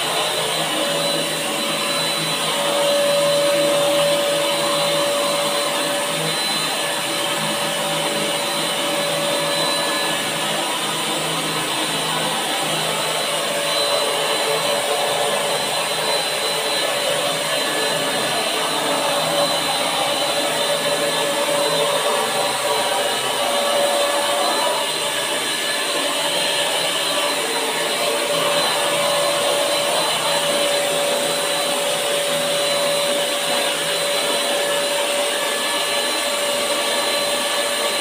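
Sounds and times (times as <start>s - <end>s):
paint sprayer blower rushing air: 0.0s - 38.0s.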